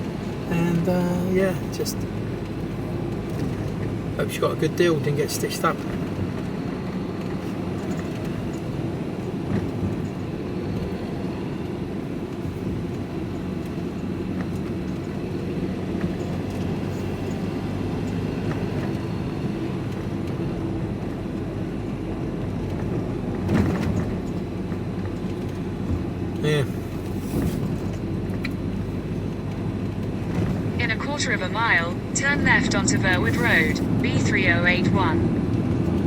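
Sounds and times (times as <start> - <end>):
vehicle engine and road noise: 0.0 - 36.0.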